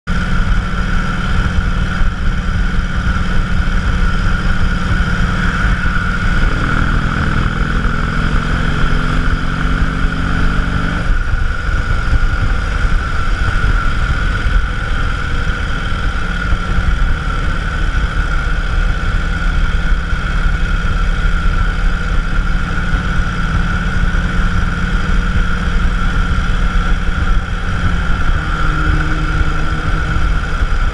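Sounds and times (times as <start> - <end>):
motorcycle engine running: 0.0 - 30.9
wind rumble on microphone: 0.1 - 30.9.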